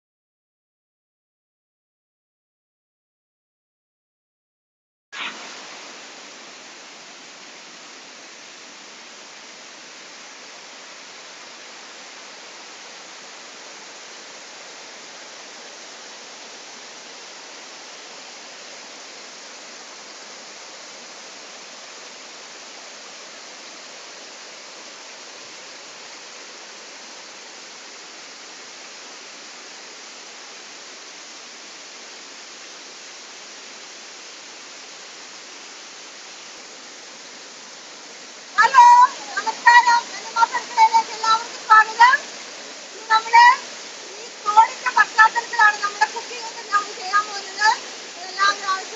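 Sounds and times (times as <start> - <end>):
waterfall rushing over rocks: 5.2 - 48.9.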